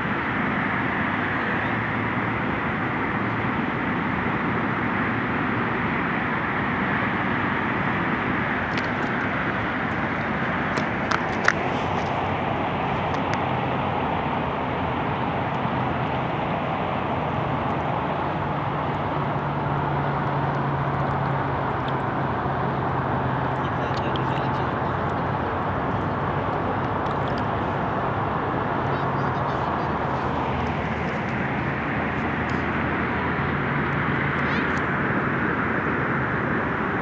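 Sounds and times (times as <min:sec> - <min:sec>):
steady engine drone: 0:00.0 - 0:37.0.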